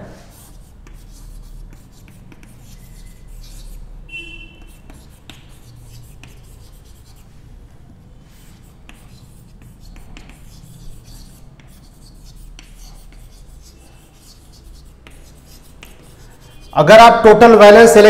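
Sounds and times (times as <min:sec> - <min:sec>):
chalk scratching on chalkboard: 0:00.0 - 0:07.5, 0:08.1 - 0:17.0.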